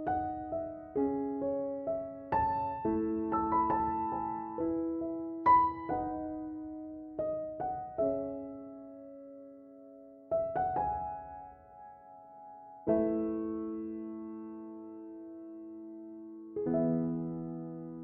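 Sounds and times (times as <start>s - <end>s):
gentle solo piano music: 0.0s - 18.0s.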